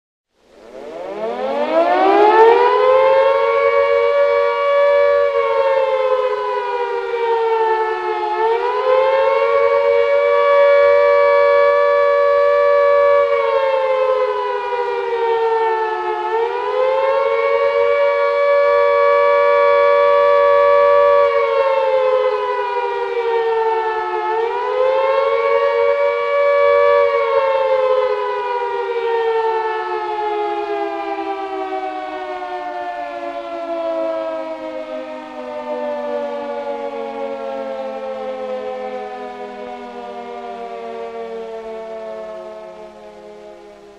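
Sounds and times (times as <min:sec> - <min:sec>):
siren wailing: 0:00.4 - 0:43.9.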